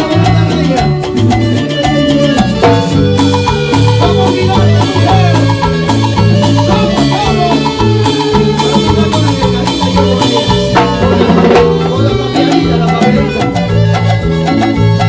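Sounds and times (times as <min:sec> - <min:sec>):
bass line: 0:00.0 - 0:15.0
bright melodic lead: 0:00.0 - 0:15.0
drums and percussion: 0:00.0 - 0:15.0.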